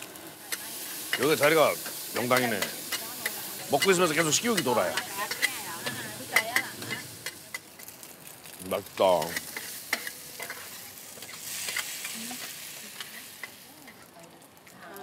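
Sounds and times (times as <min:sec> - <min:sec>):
metal spatula scraping wok: 0:00.0 - 0:08.0, 0:09.0 - 0:14.1
food sizzling in a wok: 0:00.0 - 0:15.0.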